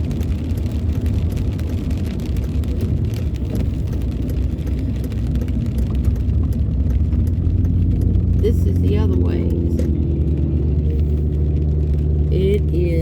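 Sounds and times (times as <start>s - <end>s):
car driving on wet road: 0.0s - 13.0s
rain ticking on car: 0.0s - 13.0s.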